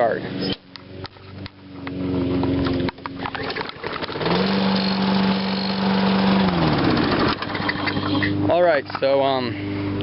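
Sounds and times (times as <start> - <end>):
lawn mower engine starting: 0.3 - 9.0.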